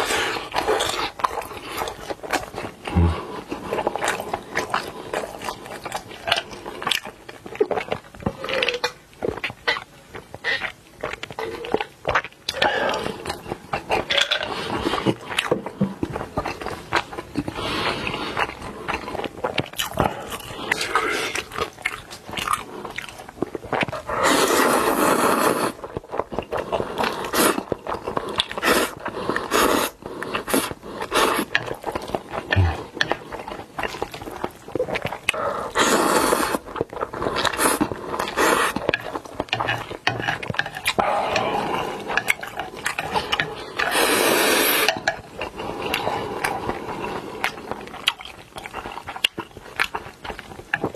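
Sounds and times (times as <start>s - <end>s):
biting and chewing: 0.0s - 50.9s.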